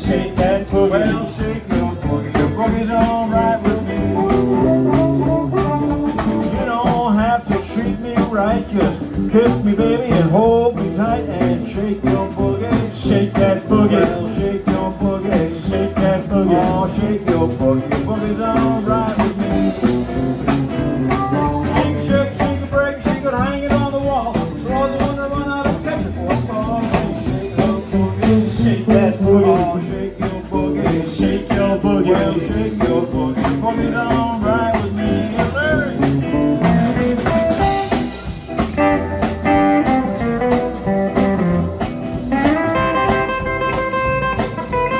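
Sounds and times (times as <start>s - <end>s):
drum kit: 0.0s - 44.9s
electric guitar: 0.0s - 44.9s
upright bass: 0.0s - 44.9s.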